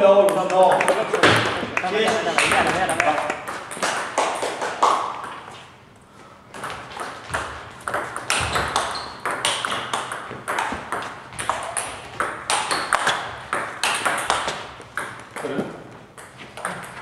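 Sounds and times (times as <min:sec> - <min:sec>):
table tennis balls clicking: 0:00.2 - 0:05.5, 0:06.5 - 0:17.0.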